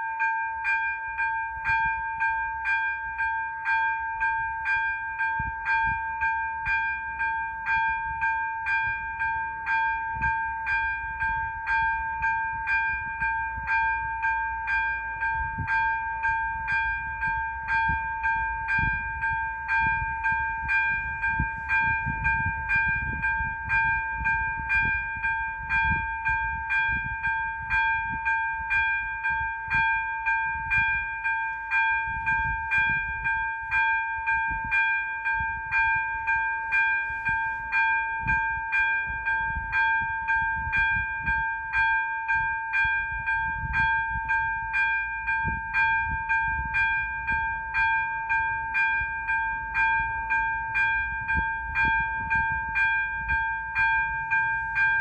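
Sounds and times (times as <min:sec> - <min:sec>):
electronic level-crossing bell: 0:00.0 - 0:55.0.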